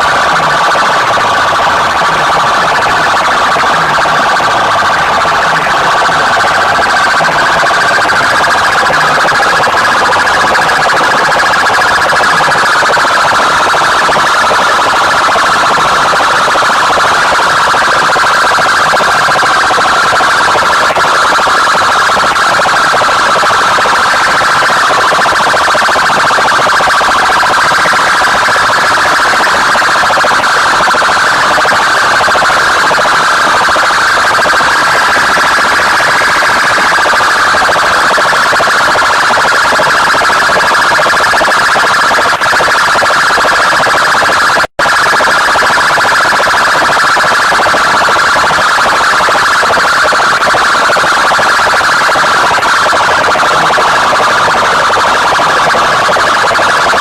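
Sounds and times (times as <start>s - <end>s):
distorted siren-like electronic tone: 0.0s - 57.0s.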